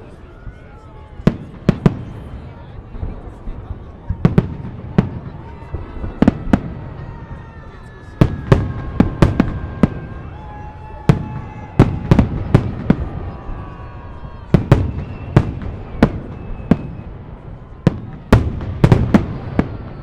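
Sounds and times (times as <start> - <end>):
fireworks bangs: 0.8 - 20.0.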